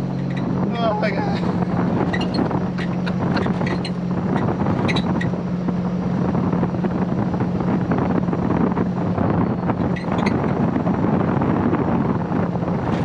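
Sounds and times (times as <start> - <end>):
race car engine cruising: 0.0 - 13.0
wind rushing: 0.3 - 13.0.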